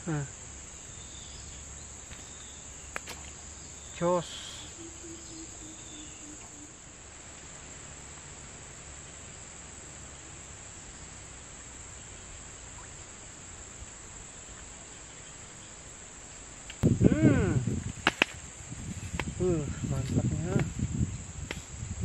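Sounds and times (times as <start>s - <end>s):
insects chorus shrill drone: 0.0s - 22.0s.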